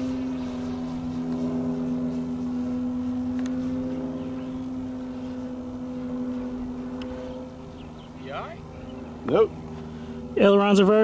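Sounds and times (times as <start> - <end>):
model plane motor droning: 0.0 - 11.0.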